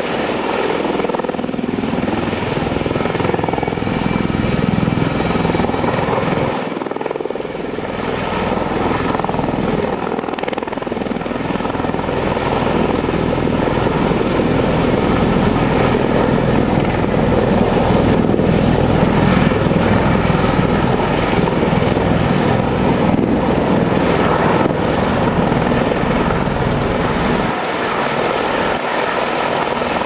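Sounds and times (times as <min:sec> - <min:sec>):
tiltrotor aircraft hovering: 0:00.0 - 0:30.0.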